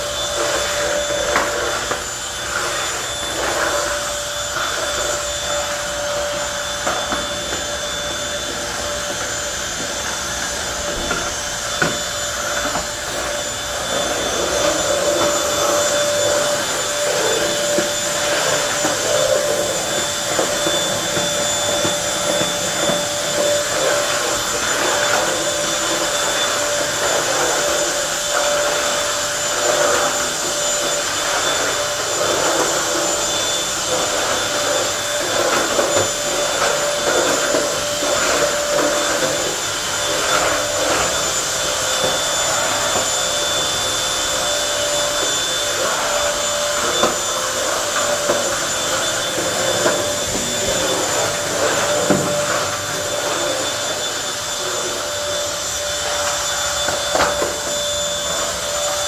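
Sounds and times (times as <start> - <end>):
stick vacuum motor whine: 0.0 - 59.0.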